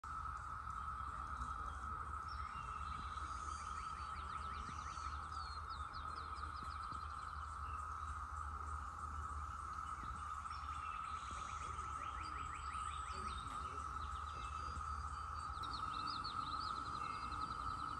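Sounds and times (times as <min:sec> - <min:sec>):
cicadas droning: 0:00.0 - 0:17.9
bird chirping: 0:00.4 - 0:17.9.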